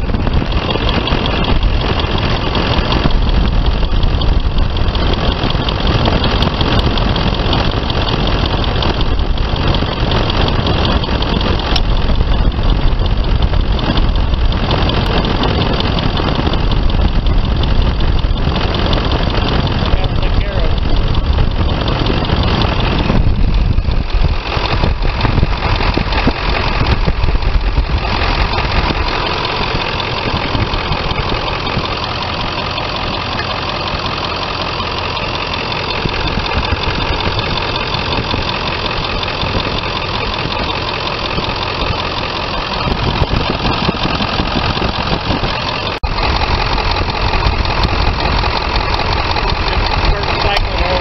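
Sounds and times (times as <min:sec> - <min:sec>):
diesel engine idling: 0:00.0 - 0:51.0.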